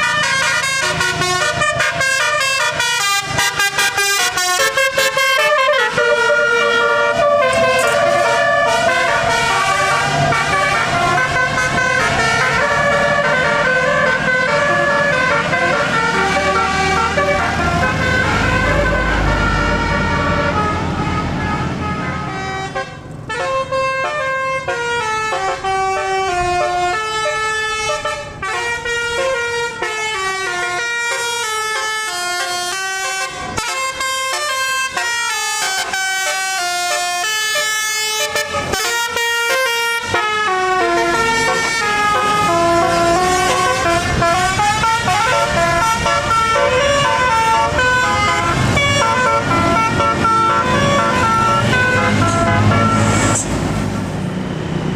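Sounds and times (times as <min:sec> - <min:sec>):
bus horn playing melody: 0:00.0 - 0:54.0
bus engine: 0:00.0 - 0:54.9
road noise: 0:00.0 - 0:54.9.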